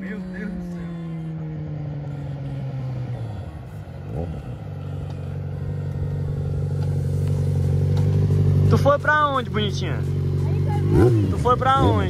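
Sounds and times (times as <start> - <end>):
motorcycle engine approaching: 0.0 - 12.0.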